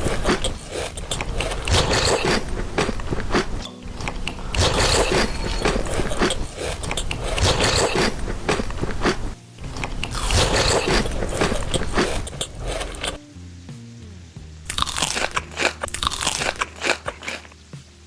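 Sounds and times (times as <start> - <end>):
crunchy food being chewed: 0.0 - 13.2, 14.7 - 17.6.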